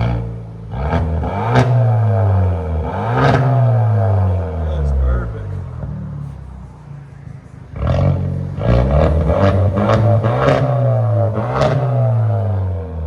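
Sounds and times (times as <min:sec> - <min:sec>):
car engine revving: 0:00.0 - 0:13.0
exhaust cracks: 0:00.0 - 0:13.0.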